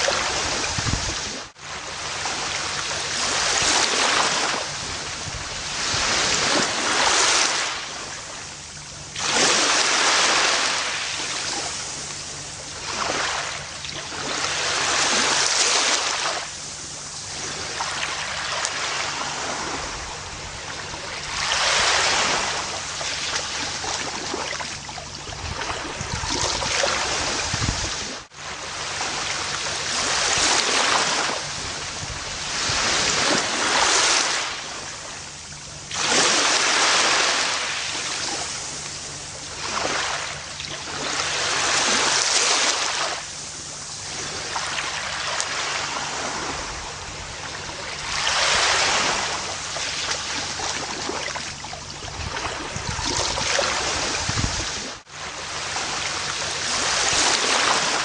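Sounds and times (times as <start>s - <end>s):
ocean waves washing up a beach: 0.0s - 58.0s.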